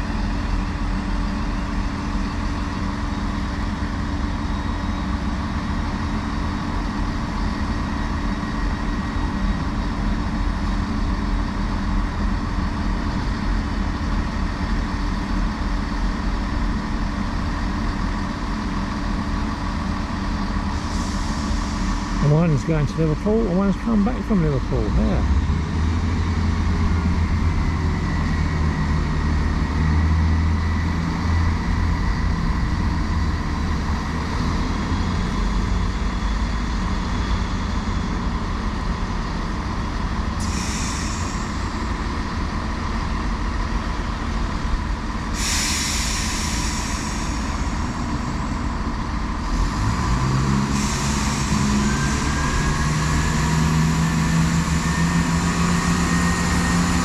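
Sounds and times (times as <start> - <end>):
diesel train engines droning: 0.0 - 57.0.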